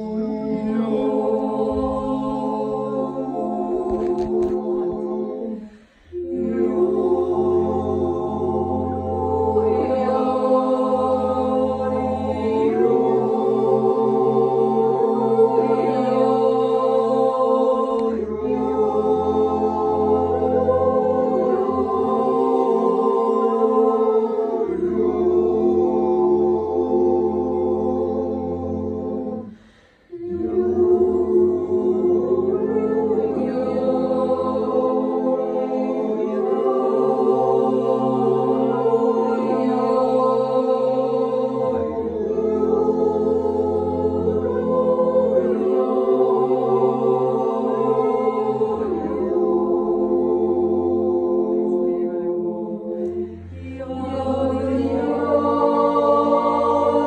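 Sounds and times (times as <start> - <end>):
group yodelling a cappella: 0.0 - 57.0.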